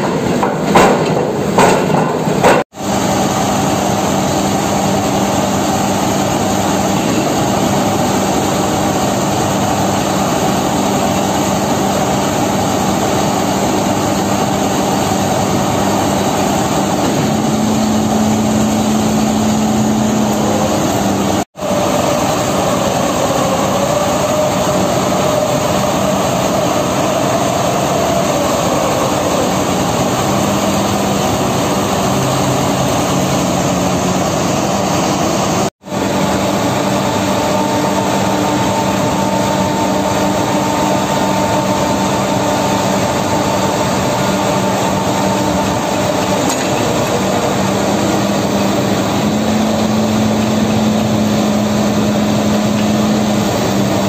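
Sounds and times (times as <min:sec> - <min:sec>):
drilling rig engine humming: 0:00.0 - 0:54.0.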